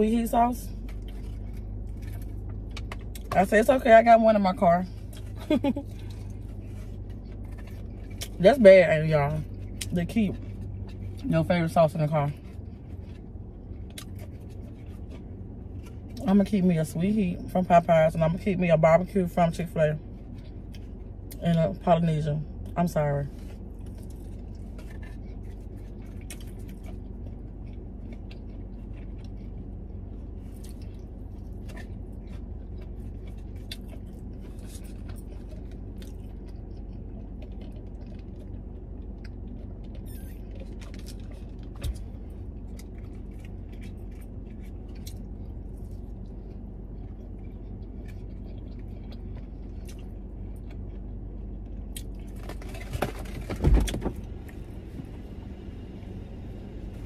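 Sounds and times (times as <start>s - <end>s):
car cabin low hum: 0.0s - 57.0s.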